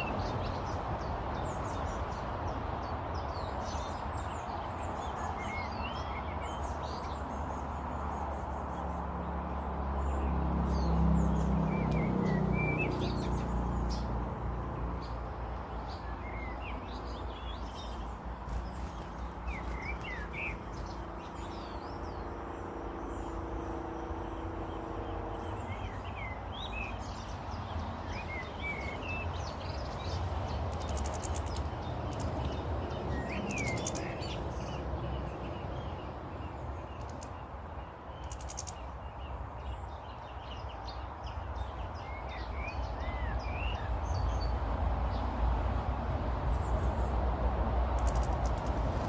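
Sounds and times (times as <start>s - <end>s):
small birds chirping: 0.0s - 47.2s, 47.9s - 49.0s.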